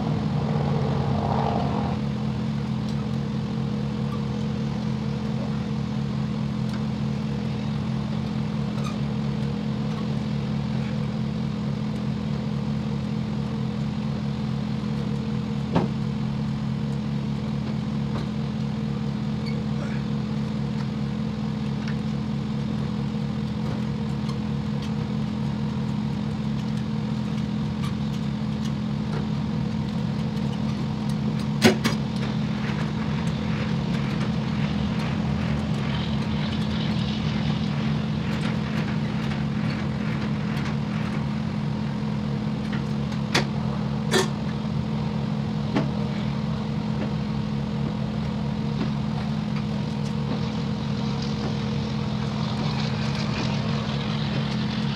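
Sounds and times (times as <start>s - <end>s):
diesel truck engine idling: 2.0s - 54.9s.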